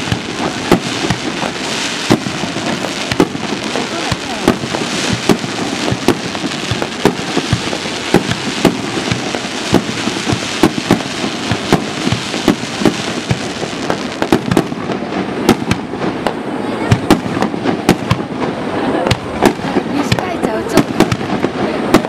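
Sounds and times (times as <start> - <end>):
crackling hiss of fireworks: 0.0 - 22.0
fireworks bangs and pops: 0.0 - 22.0.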